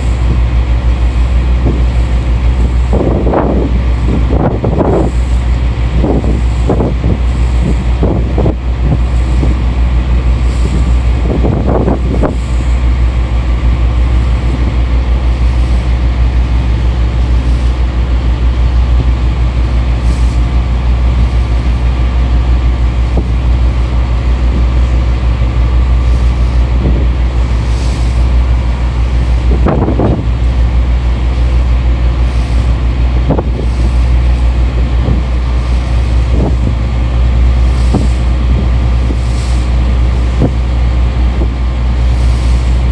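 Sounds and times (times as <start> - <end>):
boat engine drone: 0.0 - 42.9
wind buffeting microphone: 0.0 - 42.9.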